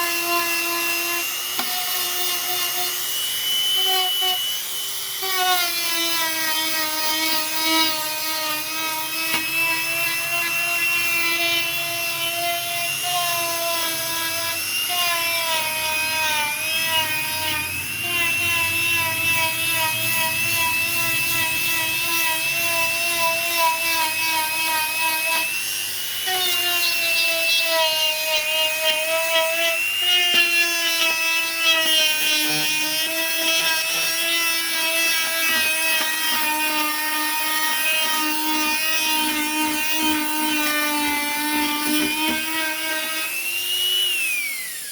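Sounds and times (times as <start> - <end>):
power tool motor whining: 0.0 - 44.9.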